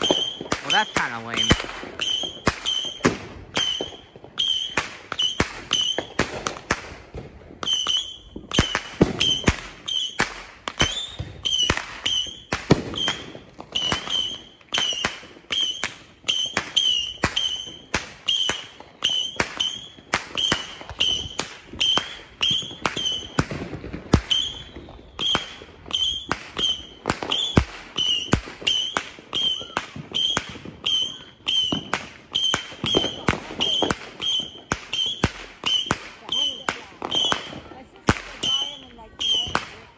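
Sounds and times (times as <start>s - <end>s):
firecrackers popping: 0.0s - 39.9s.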